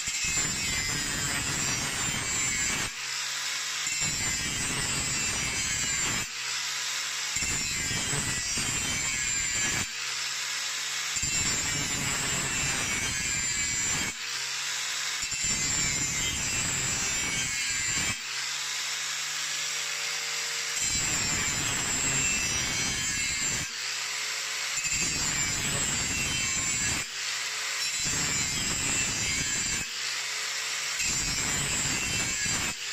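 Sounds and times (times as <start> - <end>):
grinder motor whine: 0.0 - 32.9.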